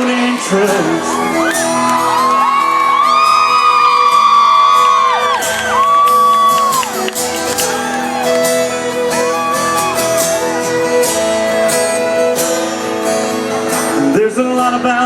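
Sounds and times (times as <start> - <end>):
country band playing: 0.0 - 15.0
strummed acoustic guitar: 0.0 - 15.0
bending lead guitar notes: 1.0 - 14.9.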